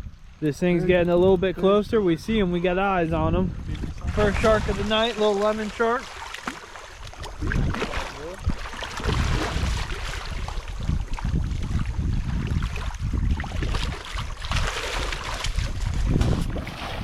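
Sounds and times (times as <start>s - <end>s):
wind buffeting microphone: 0.0s - 6.0s, 6.9s - 17.0s
water noise: 0.0s - 17.0s.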